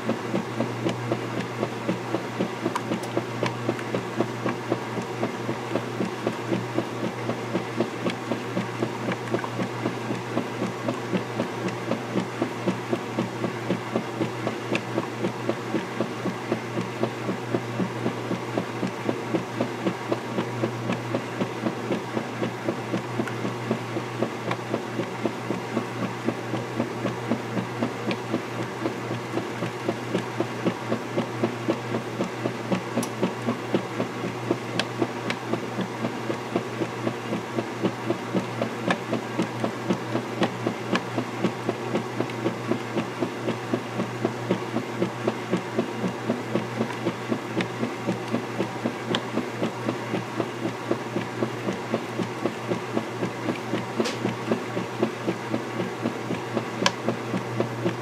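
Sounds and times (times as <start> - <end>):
washer motor hum: 0.0 - 58.0.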